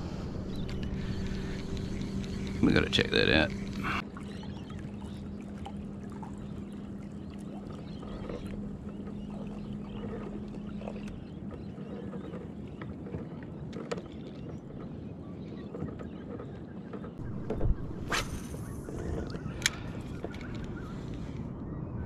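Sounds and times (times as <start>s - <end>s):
kayak moving across water: 0.0s - 21.6s.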